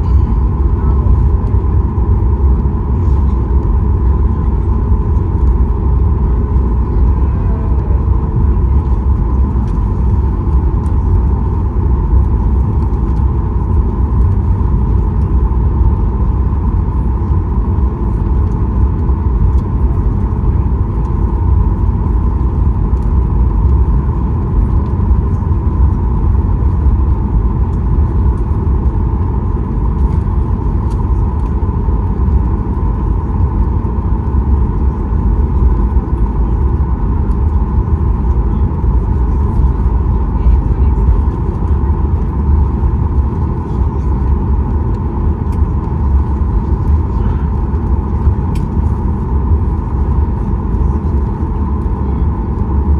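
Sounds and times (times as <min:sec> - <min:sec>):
aircraft cabin rumble: 0:00.0 - 0:52.9
mid-pitched hum: 0:00.0 - 0:52.9.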